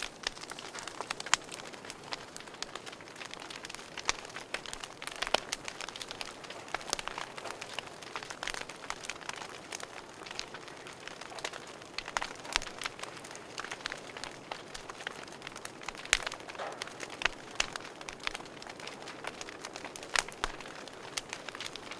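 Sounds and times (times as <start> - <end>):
fire pops and snaps: 0.0 - 21.9
wood fire crackling: 0.0 - 21.9.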